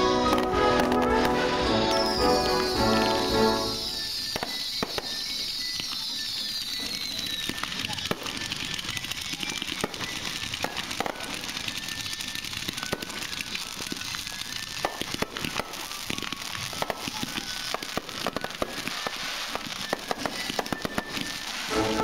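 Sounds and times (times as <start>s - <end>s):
fireworks crackling pops: 0.0s - 22.0s
fireworks hiss: 0.0s - 22.0s
fireworks loud bangs: 0.0s - 22.0s.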